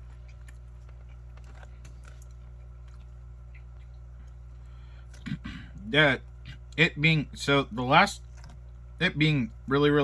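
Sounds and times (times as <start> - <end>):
person chewing food: 0.0 - 6.8, 8.2 - 9.6
steady low hum: 0.0 - 10.0.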